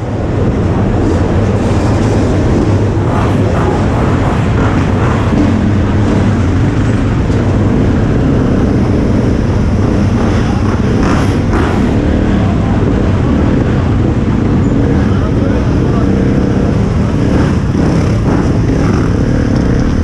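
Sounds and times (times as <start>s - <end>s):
dirt bike engine at low revs: 0.0s - 20.0s
dirt bikes idling nearby: 0.0s - 20.0s.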